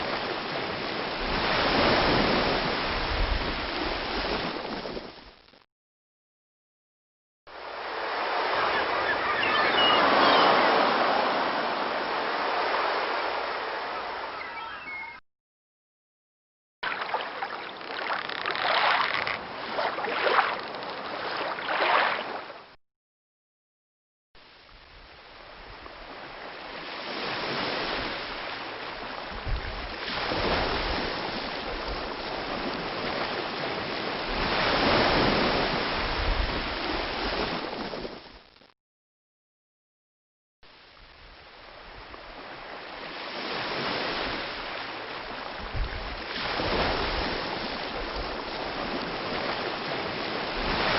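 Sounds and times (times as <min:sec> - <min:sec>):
sea waves washing onto beach: 0:00.0 - 0:05.2, 0:07.5 - 0:14.7, 0:16.8 - 0:22.5, 0:25.1 - 0:38.3, 0:41.0 - 0:50.9.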